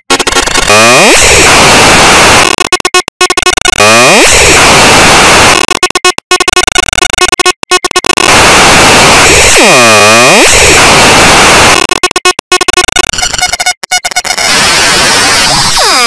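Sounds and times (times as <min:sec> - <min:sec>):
distorted cartoon soundtrack: 0:00.0 - 0:16.0.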